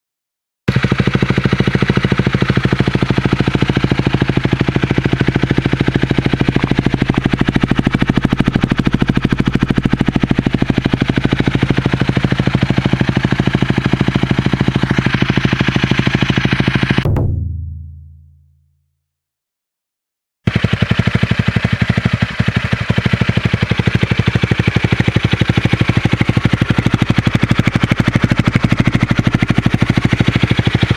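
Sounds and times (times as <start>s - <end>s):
motorcycle engine idling: 0.7s - 18.3s, 20.5s - 30.9s.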